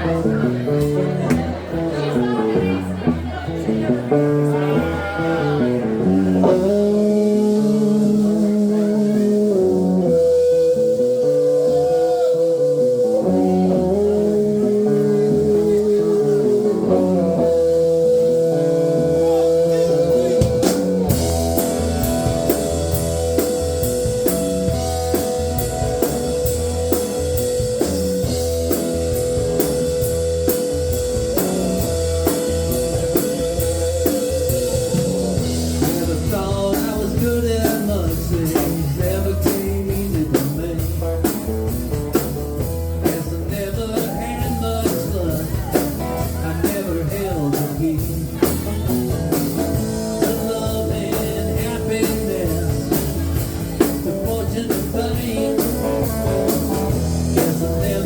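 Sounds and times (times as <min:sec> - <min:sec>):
guitar melodic lines: 0:00.0 - 0:58.0
live blues-rock band: 0:00.0 - 0:58.0
drum kit beat: 0:05.8 - 0:58.0.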